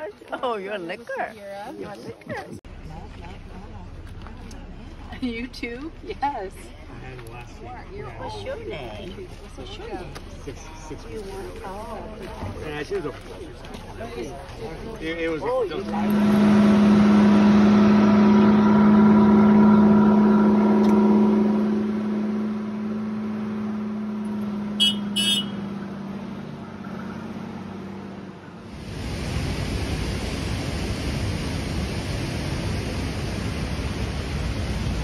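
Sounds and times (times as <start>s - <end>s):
truck engine humming: 2.7s - 35.0s.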